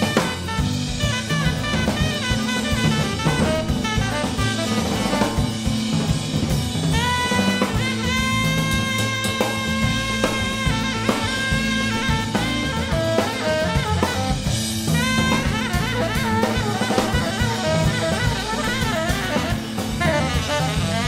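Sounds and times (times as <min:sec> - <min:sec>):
drum kit beat: 0:00.0 - 0:21.0
saxophone melody: 0:00.0 - 0:21.0.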